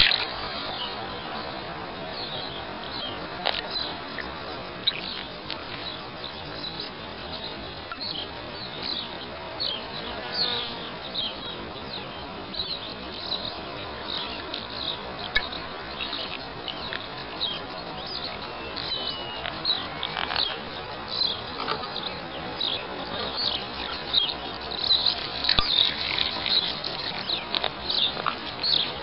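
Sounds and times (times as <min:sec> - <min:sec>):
small birds chirping: 0:00.0 - 0:29.0
steady background hiss: 0:00.0 - 0:29.0.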